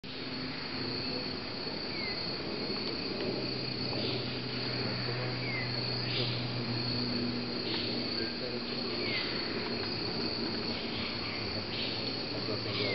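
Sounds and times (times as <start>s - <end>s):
insect chorus drone: 0.0s - 12.9s
low steady hum: 0.0s - 12.9s.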